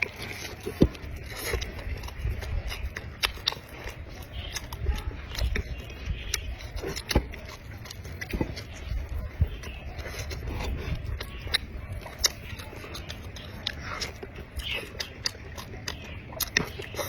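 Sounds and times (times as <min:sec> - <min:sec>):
chewing and biting food: 0:00.0 - 0:17.0.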